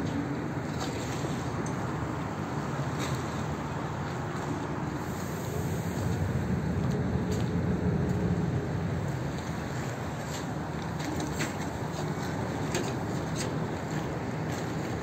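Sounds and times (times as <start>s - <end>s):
water noise: 0.0s - 12.7s
boat engine rumbling: 0.0s - 15.0s.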